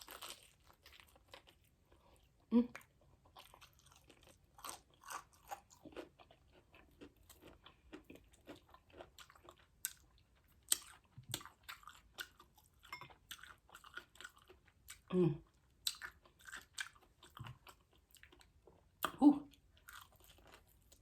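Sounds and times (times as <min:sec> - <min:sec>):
chewing crispy food: 0:00.0 - 0:21.0.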